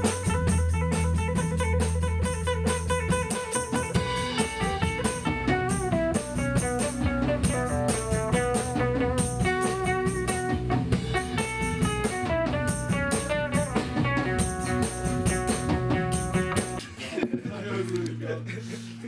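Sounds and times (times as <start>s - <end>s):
picked guitar melody: 0.0s - 16.8s
drum kit: 0.0s - 17.4s
bass guitar: 0.0s - 19.0s.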